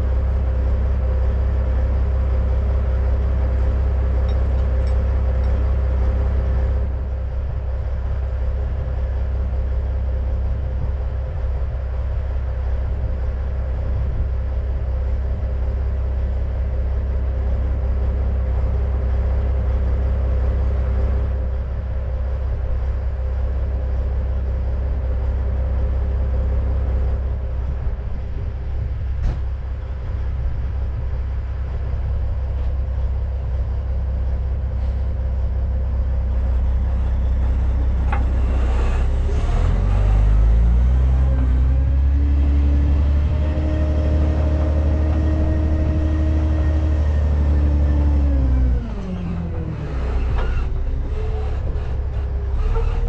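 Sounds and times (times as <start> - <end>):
diesel engine idling and revving: 0.0 - 53.0.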